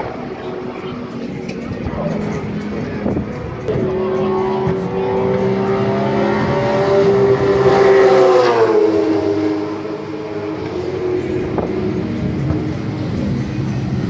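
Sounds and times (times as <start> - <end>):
race car passing by: 0.0 - 14.0.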